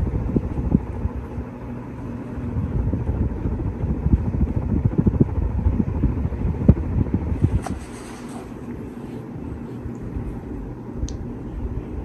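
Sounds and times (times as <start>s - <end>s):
ceiling fan rumbling: 0.0s - 12.0s.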